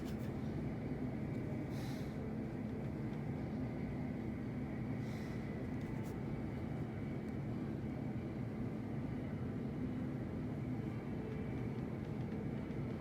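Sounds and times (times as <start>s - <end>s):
faint high engine whine: 0.0s - 13.0s
jet engines low rumble: 0.0s - 13.0s.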